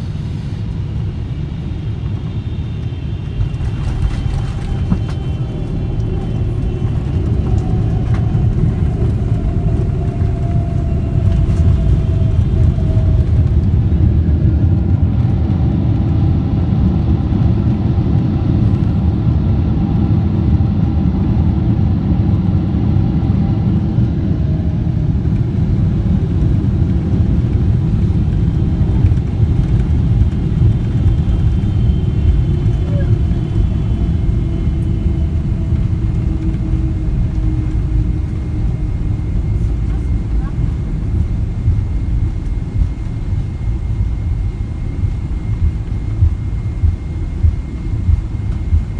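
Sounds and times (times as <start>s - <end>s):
aircraft cabin engine rumble: 0.0s - 48.9s.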